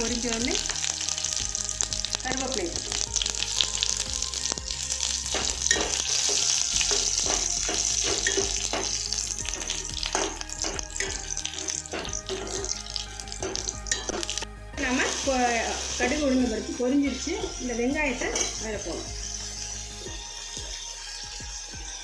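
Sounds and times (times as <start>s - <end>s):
oil sizzling with sharp pops: 0.0s - 22.0s.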